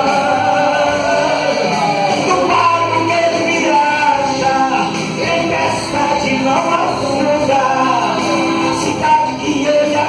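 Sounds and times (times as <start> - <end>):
loud backing music: 0.0 - 10.0
man singing into a microphone: 0.0 - 10.0.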